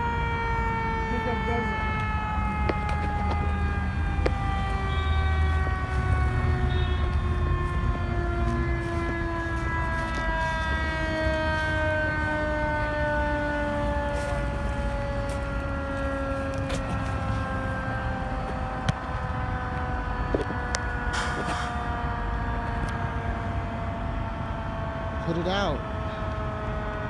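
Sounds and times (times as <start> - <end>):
fire engine siren winding down: 0.0 - 27.0.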